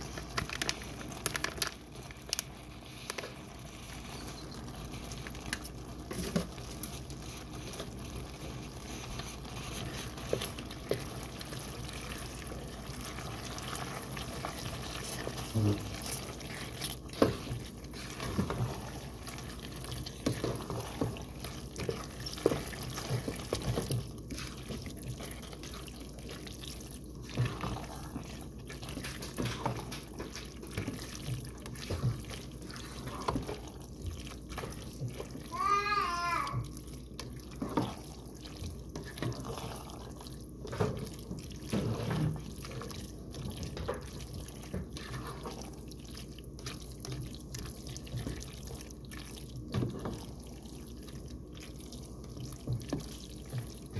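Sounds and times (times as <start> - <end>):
spoon stirring food in pan: 0.0 - 53.9.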